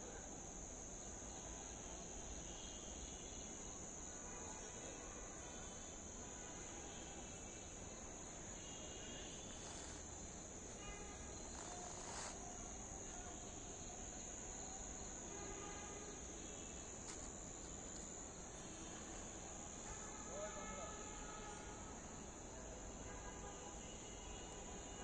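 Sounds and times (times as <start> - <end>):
high-pitched insect chorus: 0.0 - 25.0
low background hiss: 0.0 - 25.0.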